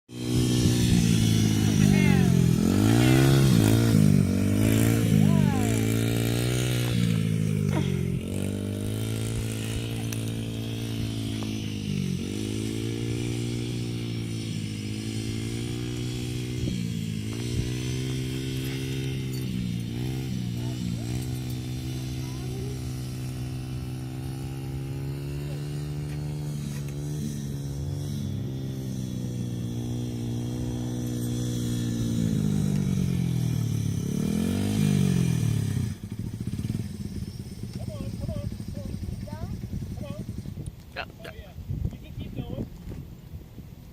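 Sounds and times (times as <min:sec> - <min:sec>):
dirt bike engine running: 0:00.1 - 0:43.9.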